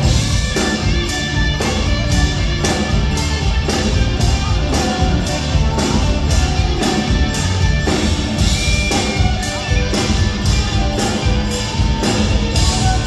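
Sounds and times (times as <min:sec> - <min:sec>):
drum beat: 0:00.0 - 0:13.0
electric bass: 0:00.0 - 0:13.0
guitar: 0:00.0 - 0:13.0.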